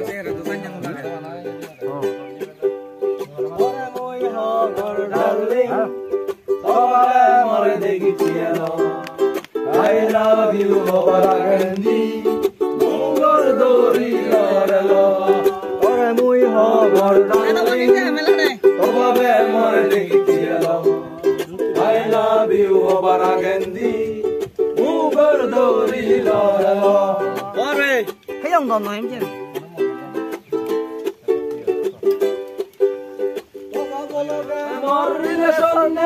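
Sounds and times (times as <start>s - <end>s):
man singing: 0.0s - 28.3s, 33.6s - 36.0s
ukulele strumming: 0.0s - 36.0s.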